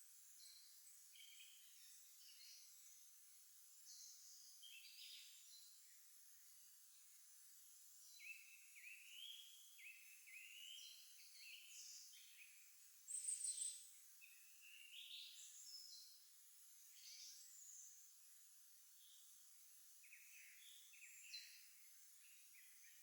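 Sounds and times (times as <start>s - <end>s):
songbirds singing faintly: 0.0s - 23.0s.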